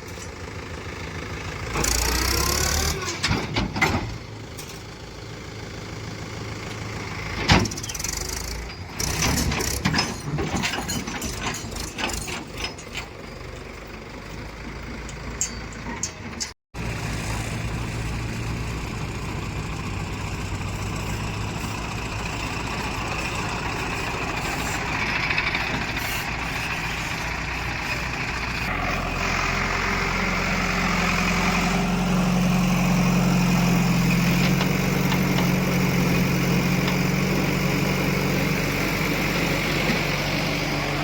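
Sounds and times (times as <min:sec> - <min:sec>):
heavy diesel engine running: 0:00.0 - 0:09.8, 0:12.4 - 0:41.0.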